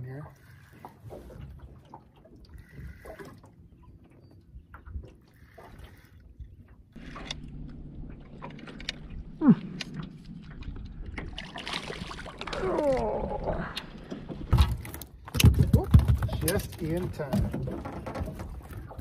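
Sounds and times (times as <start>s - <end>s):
water lapping and splashing: 0.0s - 19.0s.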